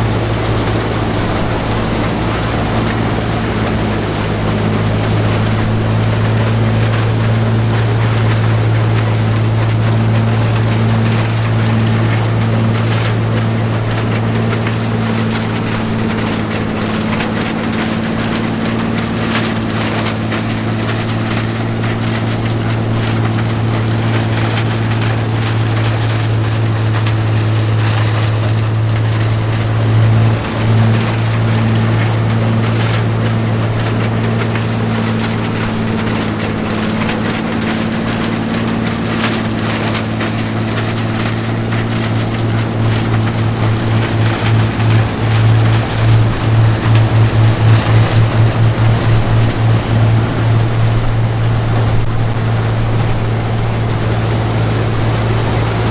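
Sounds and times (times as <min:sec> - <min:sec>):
combine harvester engine hum: 0:00.0 - 0:55.9.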